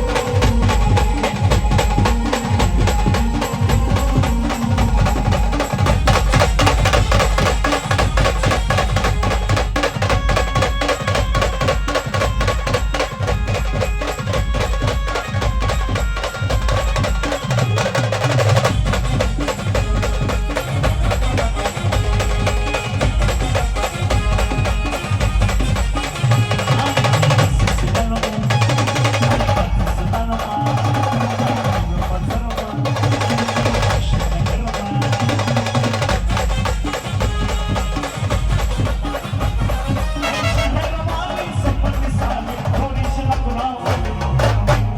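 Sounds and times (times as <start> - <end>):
band playing dance music: 0.0 - 44.9
pounding drum beat: 0.0 - 44.9.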